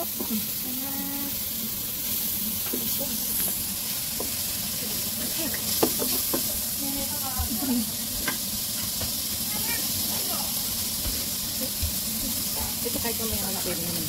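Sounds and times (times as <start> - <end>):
meat sizzling in a pot: 0.0 - 14.0.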